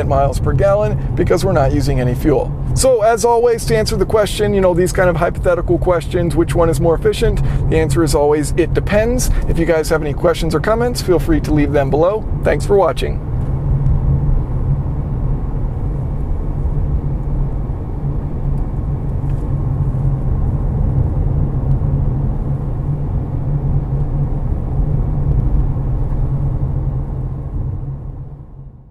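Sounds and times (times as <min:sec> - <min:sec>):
tyre and road noise: 0:00.0 - 0:28.8
car engine: 0:00.0 - 0:28.9.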